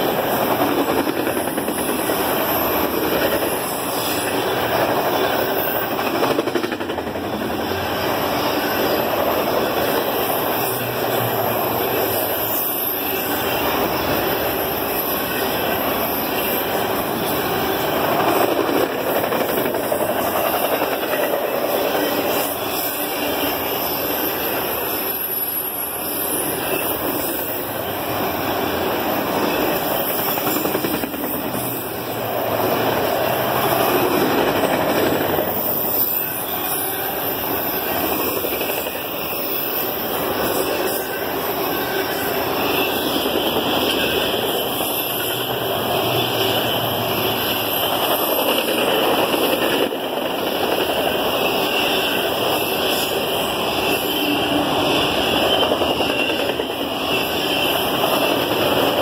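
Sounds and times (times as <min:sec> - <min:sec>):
train wheels running on rail: 0:00.0 - 0:59.0.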